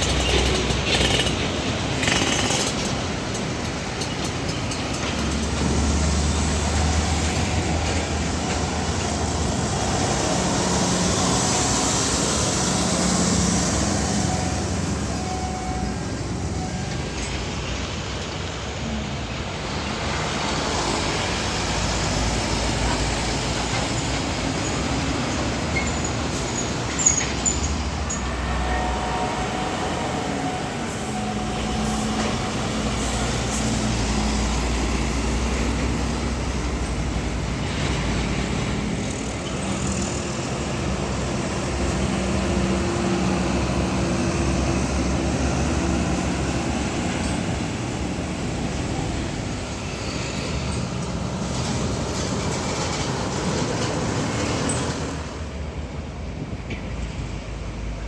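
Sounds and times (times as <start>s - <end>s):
trucks driving past: 0.0s - 58.0s.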